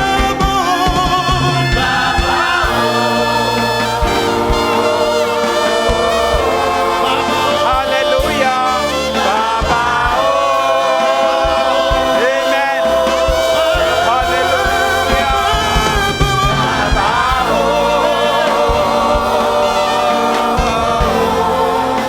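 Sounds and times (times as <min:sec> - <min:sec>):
group of voices singing: 0:00.0 - 0:22.0
steady low drum beat: 0:00.0 - 0:22.0.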